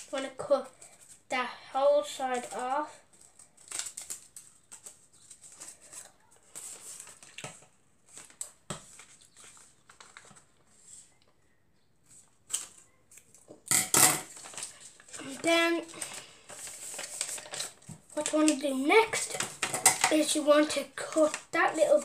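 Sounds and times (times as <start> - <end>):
paper rustling: 2.0 - 11.4, 12.0 - 13.5, 14.3 - 22.0.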